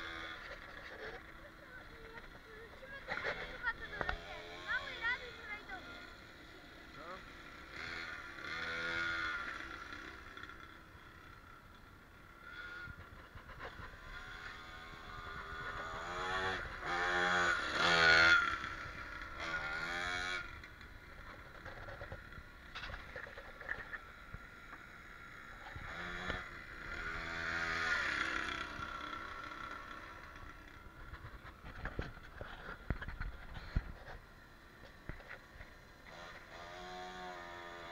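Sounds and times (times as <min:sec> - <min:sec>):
dirt bike engine revving past: 0:00.0 - 0:11.4, 0:12.2 - 0:31.7, 0:36.0 - 0:37.9.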